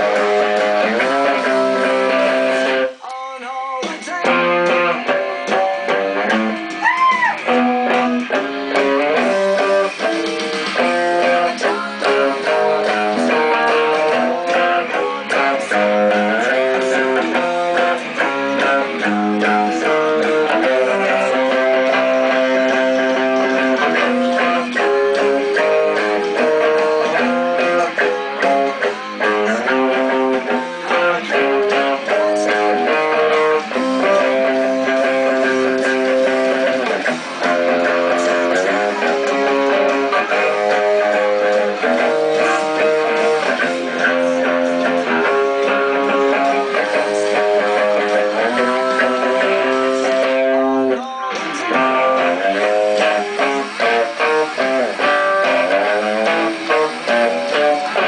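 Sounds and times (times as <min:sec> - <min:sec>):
electric guitar playing chords: 0:00.0 - 0:03.1, 0:03.8 - 0:58.0.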